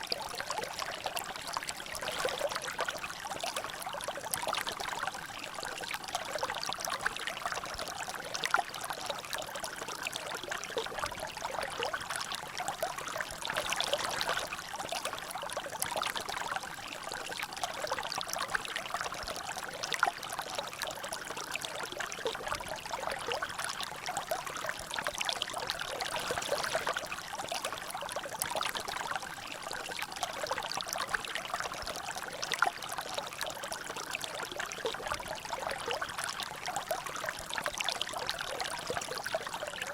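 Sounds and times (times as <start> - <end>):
water trickling in a channel: 0.0 - 39.9.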